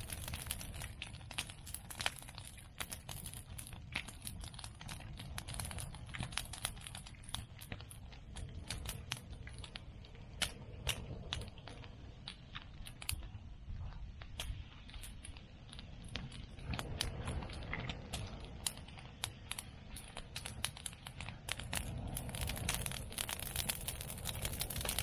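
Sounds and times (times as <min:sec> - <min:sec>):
bonfire crackling and popping: 0:00.0 - 0:25.0
low fire rumble: 0:00.0 - 0:25.0.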